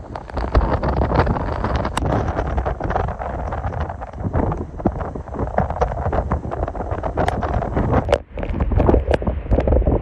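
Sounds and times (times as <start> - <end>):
strong wind gusting on microphone: 0.0 - 10.0.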